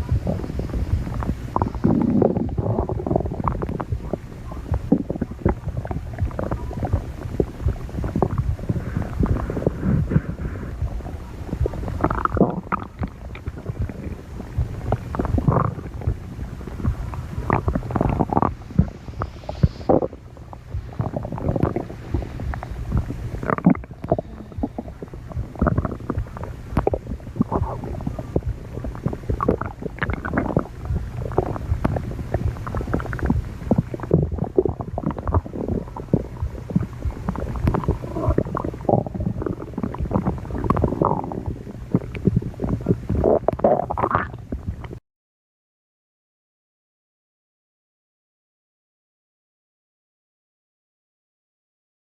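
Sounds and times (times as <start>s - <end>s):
steady low hum: 0.0s - 45.0s
stomach growling and gurgling: 0.0s - 45.0s.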